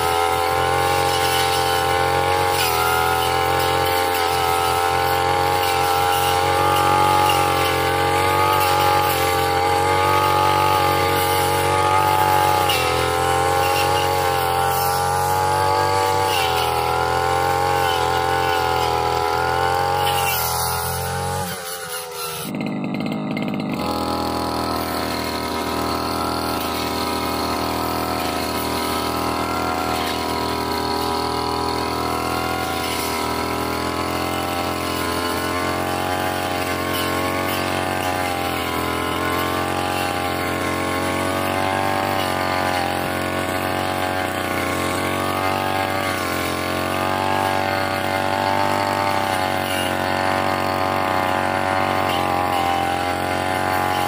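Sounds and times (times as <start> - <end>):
blade cutting grass: 0.0 - 54.0
brush cutter engine running: 0.0 - 54.0.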